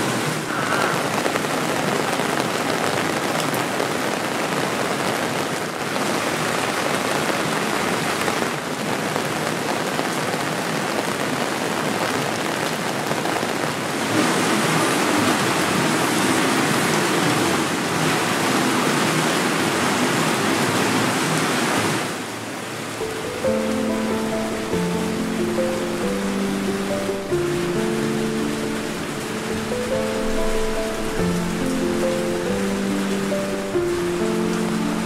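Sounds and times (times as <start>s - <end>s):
rain on wet pavement: 0.0s - 35.0s.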